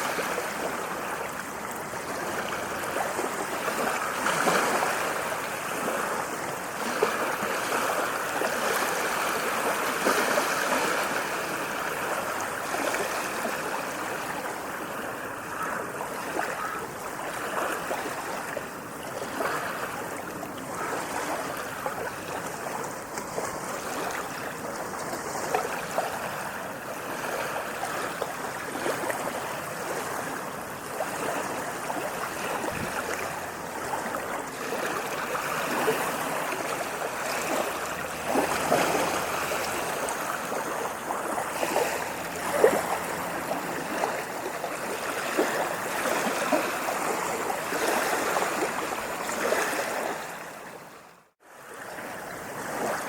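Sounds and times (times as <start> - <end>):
water waves washing and splashing: 0.0 - 53.0.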